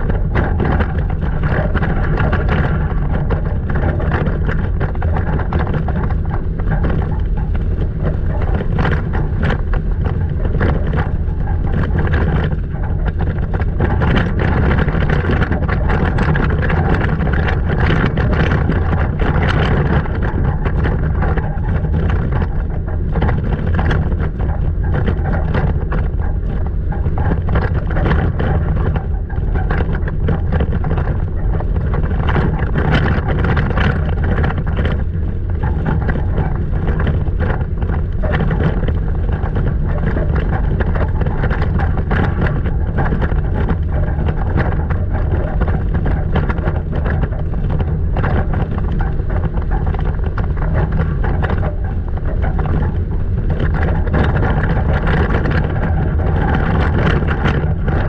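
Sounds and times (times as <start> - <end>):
truck engine and tyres rumbling: 0.0 - 58.0.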